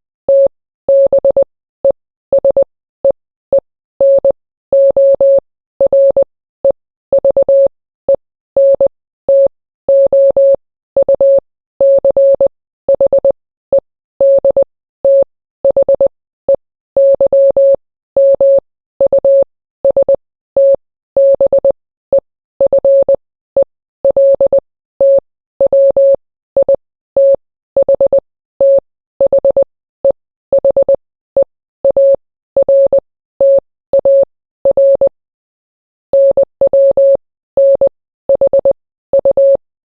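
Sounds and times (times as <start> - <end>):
morse code beeps: 0.3 - 1.5, 2.3 - 6.3, 7.2 - 35.2, 36.2 - 39.6.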